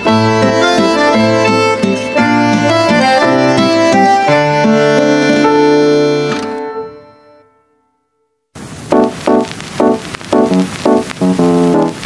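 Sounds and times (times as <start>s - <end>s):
instrumental background music: 0.0s - 7.6s, 9.0s - 12.0s.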